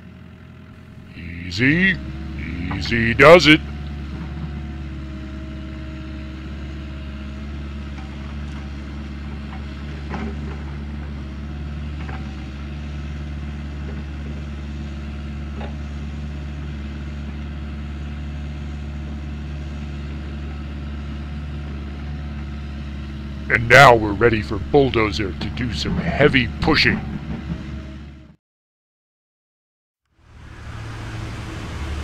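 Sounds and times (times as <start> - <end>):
heavy machine engine running: 0.0 - 28.3, 30.2 - 32.0.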